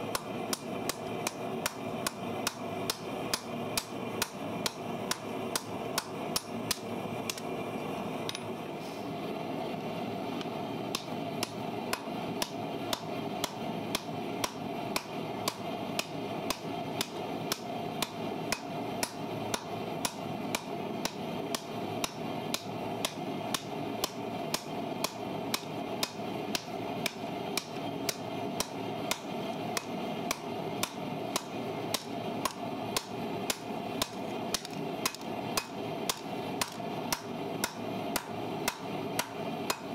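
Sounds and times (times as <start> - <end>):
hammer striking steel on anvil: 0.1 - 7.4, 10.9 - 39.9.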